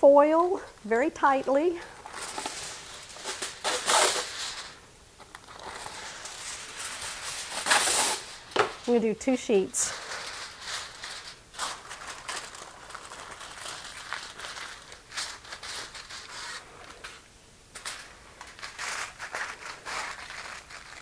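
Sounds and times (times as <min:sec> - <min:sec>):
aluminum foil crinkling: 0:01.4 - 0:21.0.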